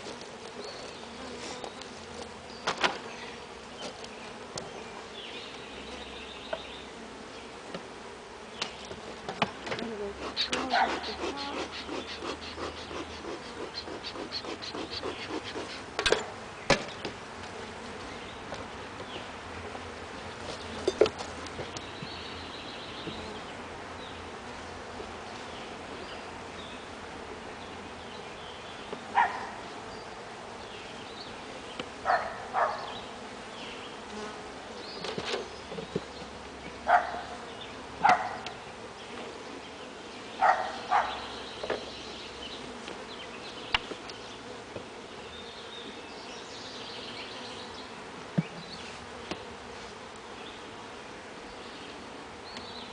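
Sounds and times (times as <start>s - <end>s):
bees buzzing: 0.0s - 52.9s.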